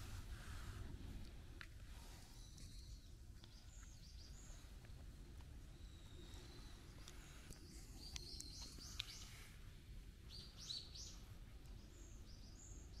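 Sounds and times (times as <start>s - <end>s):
low outdoor rumble: 0.0s - 13.0s
small birds chirping: 1.9s - 13.0s.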